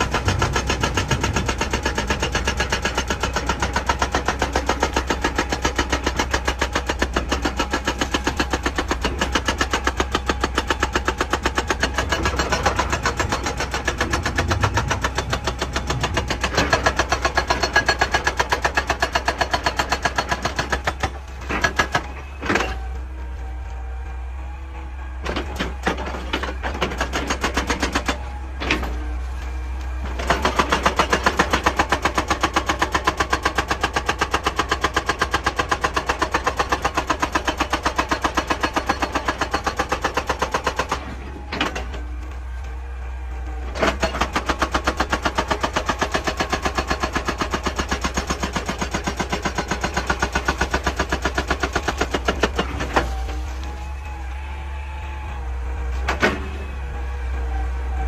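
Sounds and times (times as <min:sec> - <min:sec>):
hydraulic breaker hammering rock: 0:00.0 - 0:24.6, 0:25.2 - 0:58.0
excavator engine running: 0:00.0 - 0:58.0.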